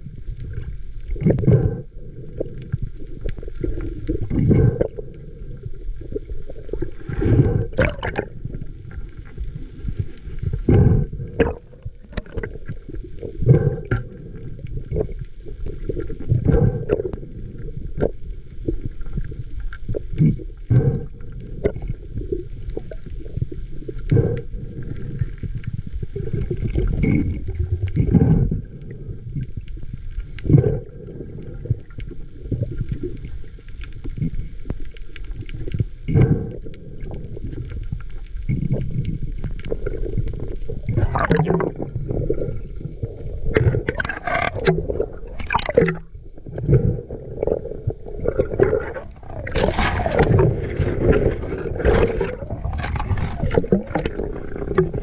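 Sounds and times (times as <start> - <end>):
bubbling and splashing: 0.0 - 55.0
muffled underwater rumble: 0.0 - 55.0.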